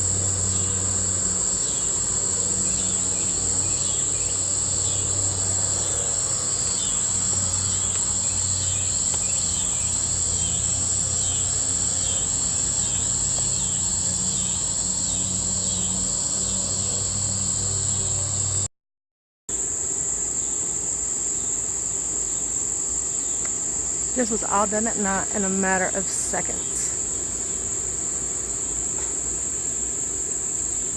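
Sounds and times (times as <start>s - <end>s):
crickets trilling: 0.0s - 18.7s, 19.5s - 30.9s
pulsing insect chirp: 0.0s - 18.7s, 19.5s - 30.9s.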